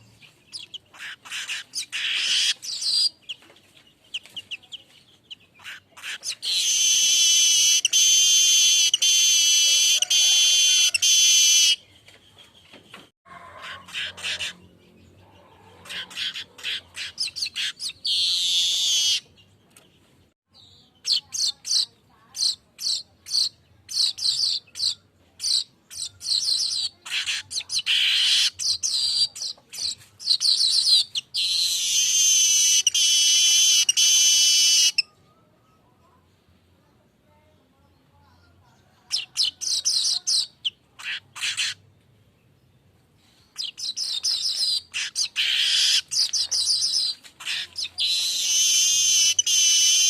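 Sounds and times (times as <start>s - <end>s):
bird singing: 4.0s - 13.1s, 13.8s - 36.2s, 39.0s - 50.0s.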